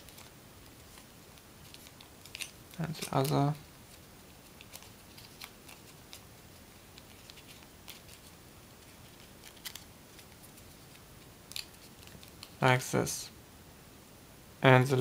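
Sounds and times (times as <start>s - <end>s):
paper crinkling in fingers: 0.0s - 12.6s.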